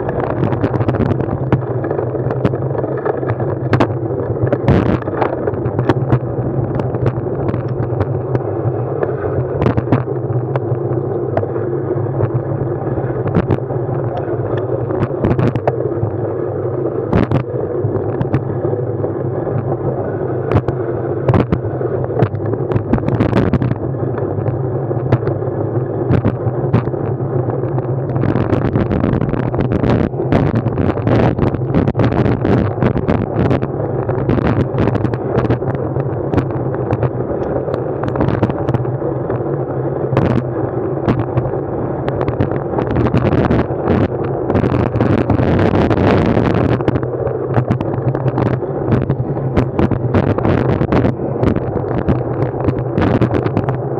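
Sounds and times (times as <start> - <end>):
rumble of wind and motion: 0.0 - 53.9.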